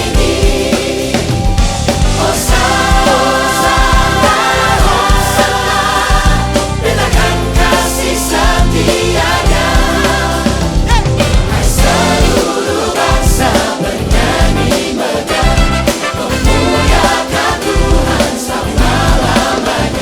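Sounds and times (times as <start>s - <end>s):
band playing with steady beat: 0.0s - 20.0s
choir singing: 0.0s - 20.0s.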